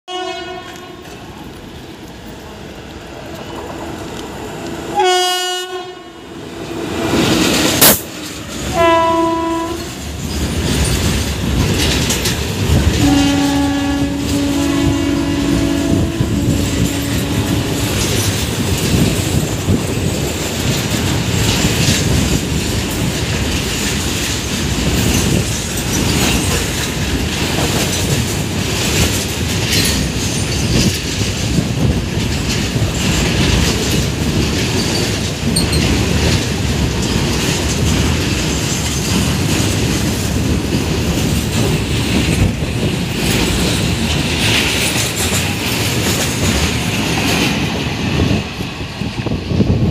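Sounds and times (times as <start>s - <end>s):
train wheels rumbling on rails: 0.1s - 49.9s.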